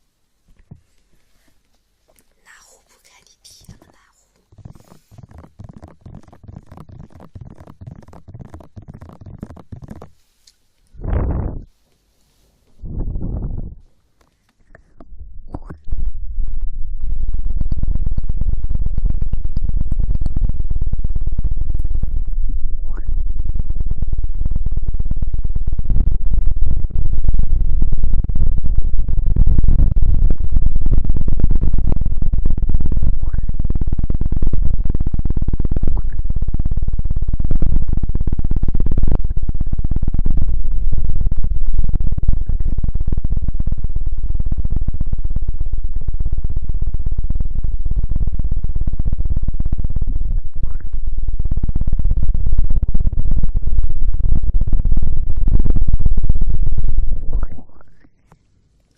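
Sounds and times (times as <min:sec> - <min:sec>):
loud crackling rumble on microphone: 0:02.5 - 0:58.9.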